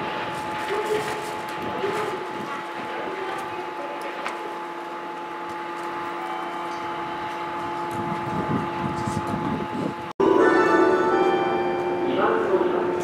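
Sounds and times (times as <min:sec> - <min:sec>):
train humming with held tones: 0:00.0 - 0:13.0.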